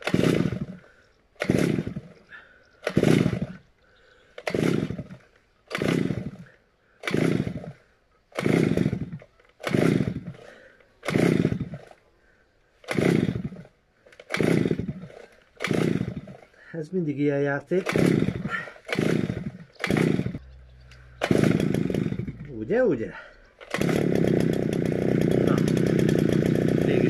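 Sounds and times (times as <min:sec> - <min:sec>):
lawn mower engine pull-start: 0:00.0 - 0:02.2, 0:02.8 - 0:03.6, 0:04.3 - 0:07.7, 0:08.3 - 0:12.0, 0:12.8 - 0:16.6, 0:17.7 - 0:27.0.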